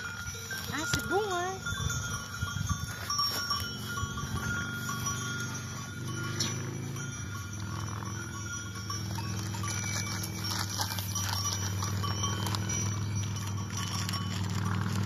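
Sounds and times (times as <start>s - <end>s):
goat bells clinking: 0.0s - 15.0s.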